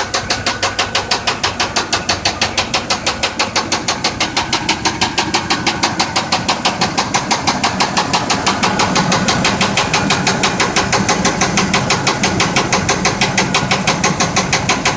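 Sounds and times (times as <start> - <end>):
car engine knocking: 0.0 - 14.9.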